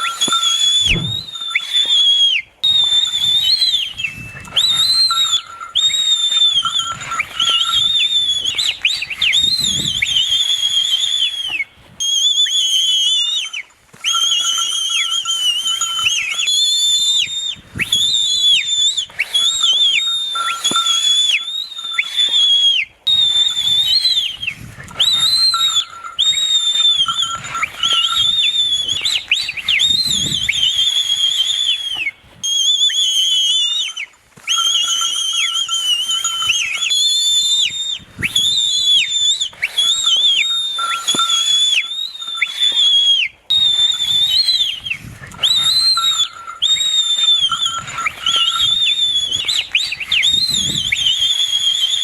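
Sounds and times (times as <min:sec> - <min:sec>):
shrill whistling: 0:00.0 - 0:52.0.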